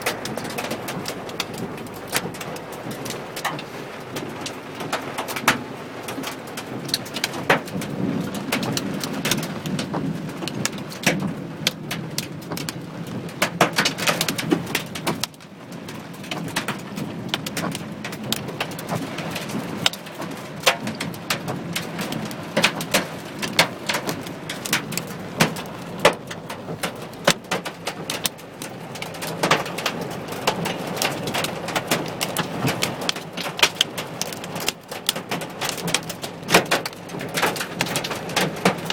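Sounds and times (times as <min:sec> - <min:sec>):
hail and rain on car roof: 0:00.0 - 0:38.9
hailstones cracking: 0:00.0 - 0:38.9.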